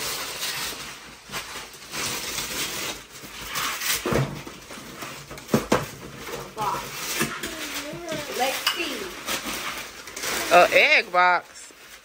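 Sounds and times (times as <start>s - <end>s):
wrapping paper rustling and tearing: 0.0s - 12.0s.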